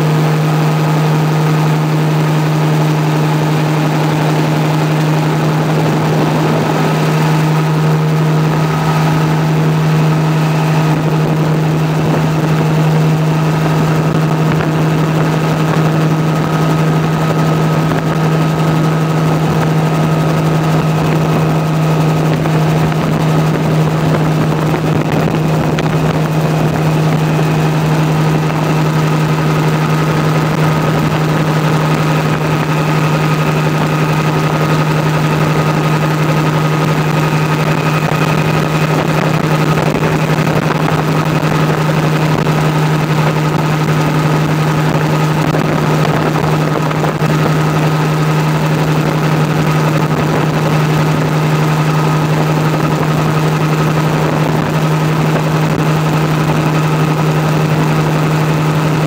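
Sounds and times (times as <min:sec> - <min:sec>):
helicopter engine and rotor drone: 0:00.0 - 0:59.0
high whine: 0:00.0 - 0:59.0.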